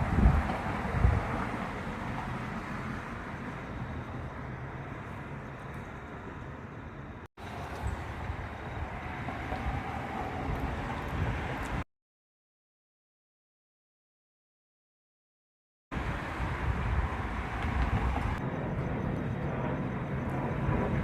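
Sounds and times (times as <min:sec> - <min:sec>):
wind buffeting microphone: 0:00.0 - 0:11.8, 0:16.0 - 0:21.0.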